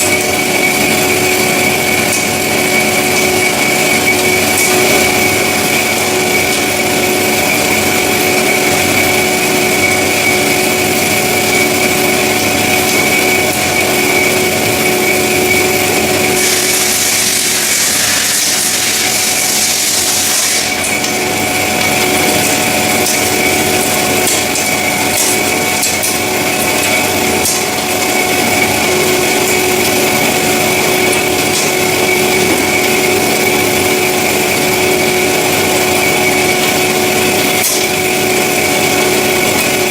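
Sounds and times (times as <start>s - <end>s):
band saw whine: 0.0s - 39.9s.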